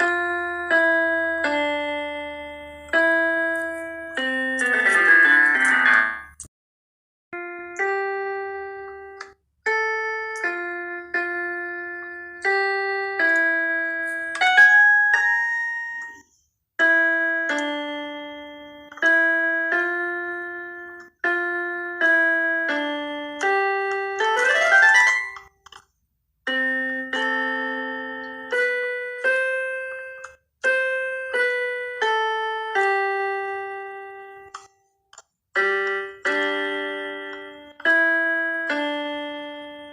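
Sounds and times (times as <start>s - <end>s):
solo piano melody: 0.0s - 6.4s, 7.4s - 25.8s, 26.4s - 34.7s, 35.6s - 39.9s.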